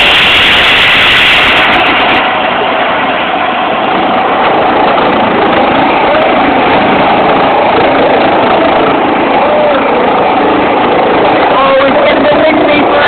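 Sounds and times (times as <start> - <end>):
faint steady whine: 0.0 - 13.0
helicopter engine and rotor: 0.0 - 13.0.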